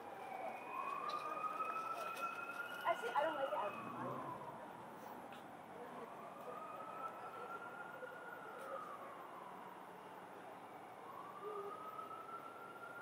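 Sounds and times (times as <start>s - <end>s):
city traffic hum: 0.0s - 13.0s
emergency vehicle siren wailing: 0.0s - 13.0s.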